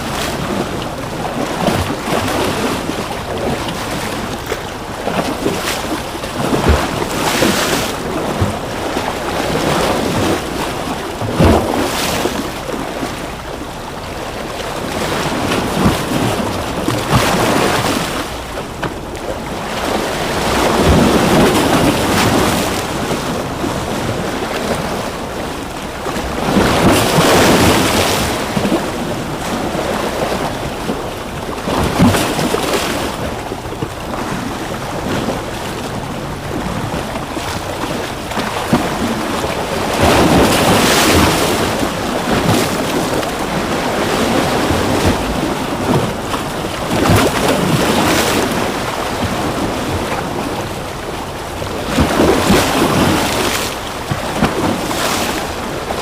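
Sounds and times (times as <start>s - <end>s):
ocean waves crashing: 0.0s - 56.0s.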